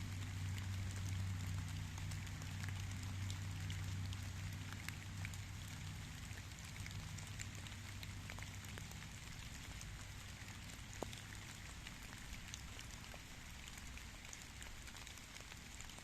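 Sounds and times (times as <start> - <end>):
rain drops ticking: 0.0 - 16.0.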